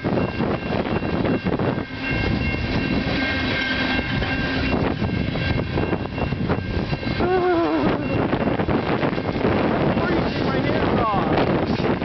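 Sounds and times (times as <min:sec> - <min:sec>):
thin steady ringing tone: 0:00.0 - 0:11.4
freight train rumbling past: 0:00.0 - 0:12.0.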